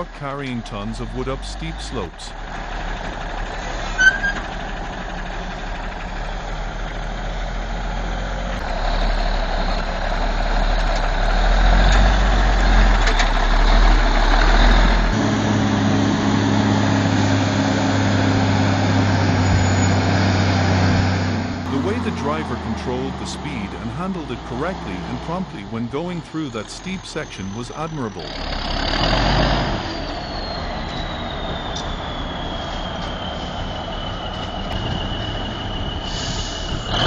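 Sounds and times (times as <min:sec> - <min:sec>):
heavy diesel truck engine: 0:00.0 - 0:37.0.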